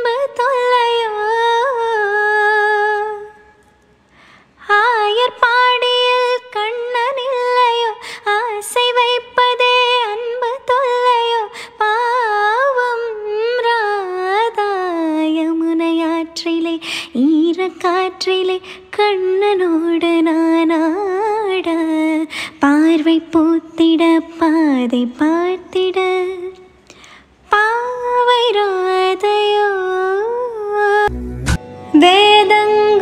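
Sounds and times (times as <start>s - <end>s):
woman singing unaccompanied: 0.0s - 3.4s, 4.6s - 26.6s, 27.5s - 31.1s, 31.9s - 33.0s.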